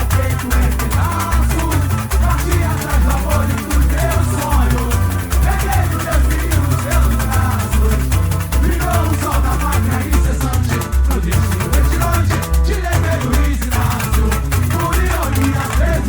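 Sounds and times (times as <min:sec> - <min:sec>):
deep drum beat: 0:00.0 - 0:16.0
rattling shakers: 0:00.0 - 0:16.0.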